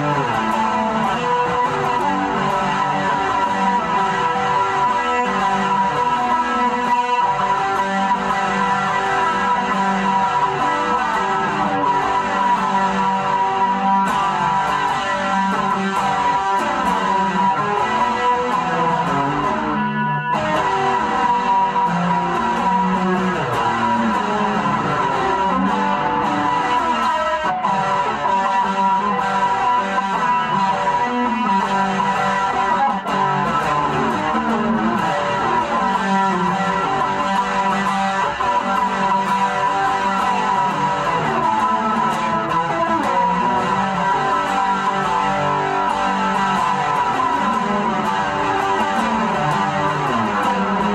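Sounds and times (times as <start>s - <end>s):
guitar picking notes and chords: 0.0s - 50.9s.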